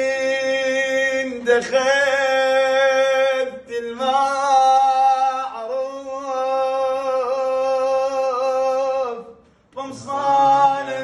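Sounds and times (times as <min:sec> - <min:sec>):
man singing a slow lament: 0:00.0 - 0:11.0.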